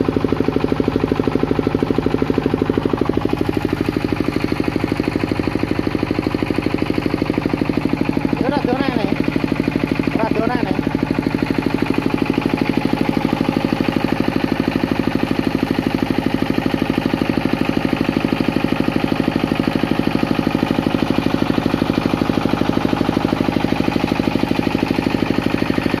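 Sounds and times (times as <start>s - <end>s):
diesel generator running: 0.0s - 26.0s.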